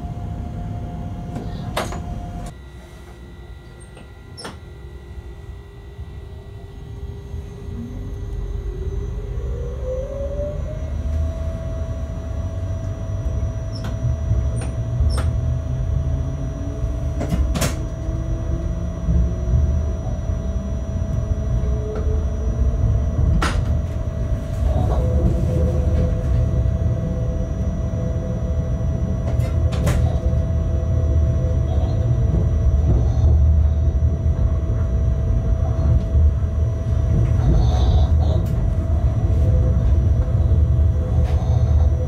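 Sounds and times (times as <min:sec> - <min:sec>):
electric locomotive motor whine: 0:00.0 - 0:42.0
wheels rumbling on rails: 0:07.6 - 0:42.0.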